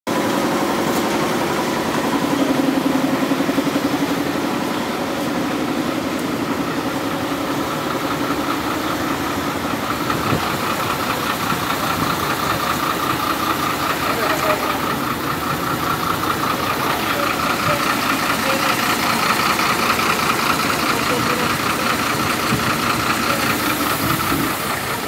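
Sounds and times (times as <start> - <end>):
diesel truck engine idling: 0.1 - 25.0.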